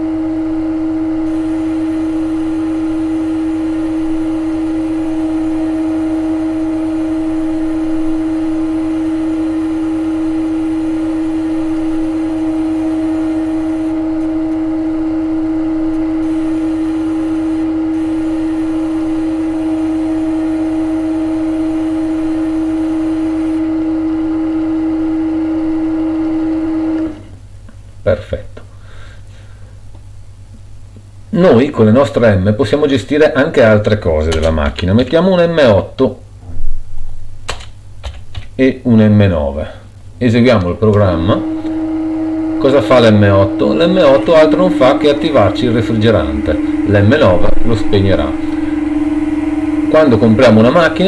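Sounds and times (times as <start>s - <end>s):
steady machine hum: 0.0s - 51.0s.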